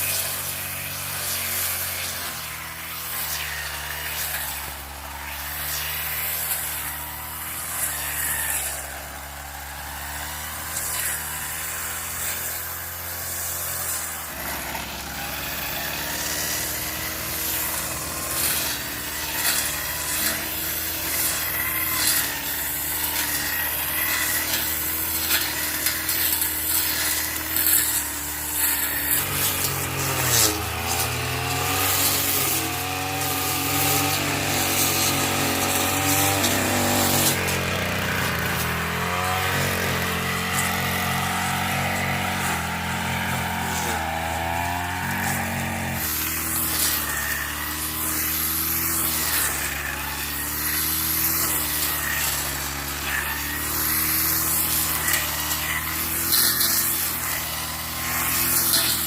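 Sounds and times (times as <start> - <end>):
rasping and scraping: 0.0 - 59.0.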